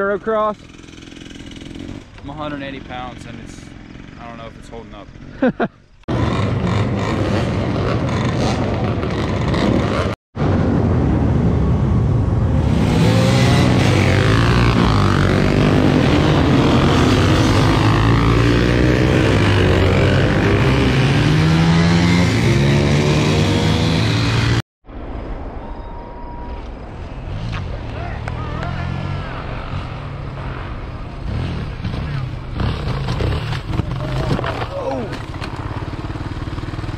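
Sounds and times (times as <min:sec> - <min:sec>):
dirt bike engines revving: 0:00.0 - 0:10.2, 0:12.5 - 0:24.6, 0:27.2 - 0:36.9.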